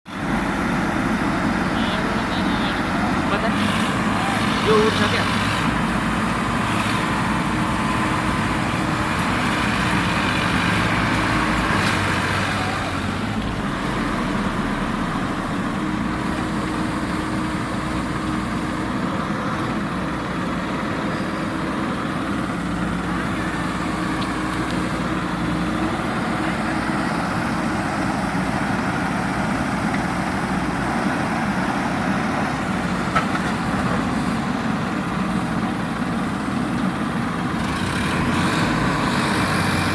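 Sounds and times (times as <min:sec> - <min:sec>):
heavy diesel engine running: 0:00.1 - 0:39.9.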